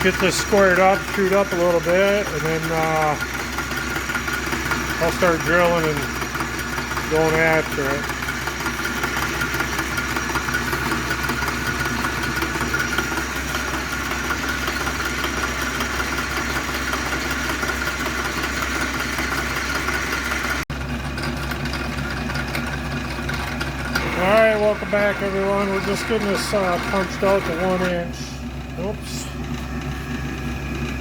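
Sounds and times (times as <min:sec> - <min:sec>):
lathe motor whine: 0:00.0 - 0:31.0
metal lathe running: 0:00.0 - 0:31.0.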